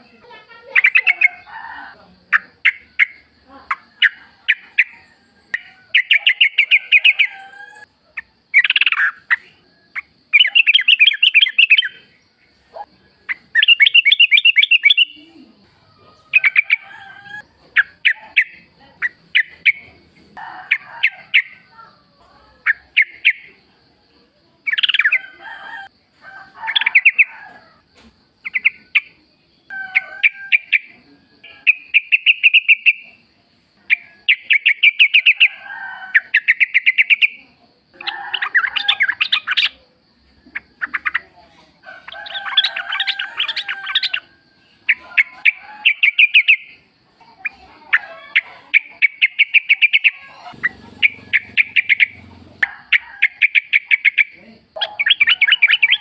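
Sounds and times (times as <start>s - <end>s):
birds singing: 0.0s - 21.7s, 22.6s - 23.6s, 24.6s - 25.4s, 26.6s - 56.0s.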